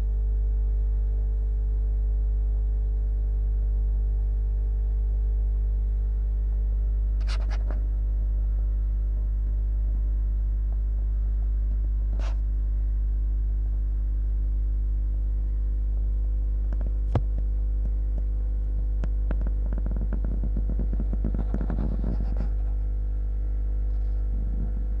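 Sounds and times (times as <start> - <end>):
aquarium pump hum: 0.0 - 25.0.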